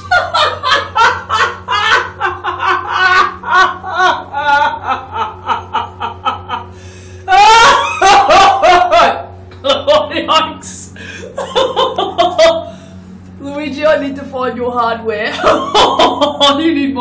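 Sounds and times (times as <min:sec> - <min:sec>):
woman laughing hard: 0:00.0 - 0:10.4, 0:11.0 - 0:12.8, 0:15.3 - 0:16.7
low hum: 0:00.0 - 0:17.0.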